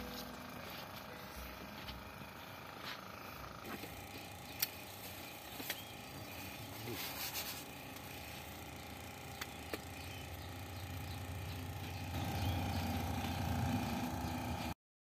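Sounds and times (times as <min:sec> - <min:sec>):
vehicle engine idling: 0:00.0 - 0:14.8.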